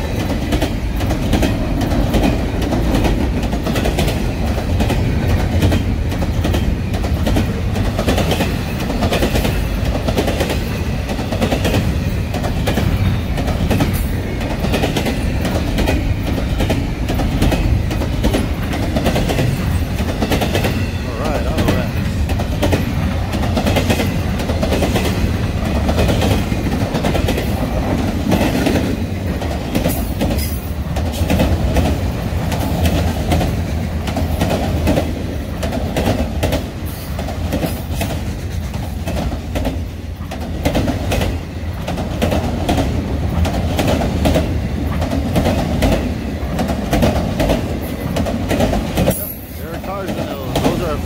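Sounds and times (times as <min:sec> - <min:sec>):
freight train rumbling past: 0:00.0 - 0:51.0
wheels clacking over rail joints: 0:00.0 - 0:51.0.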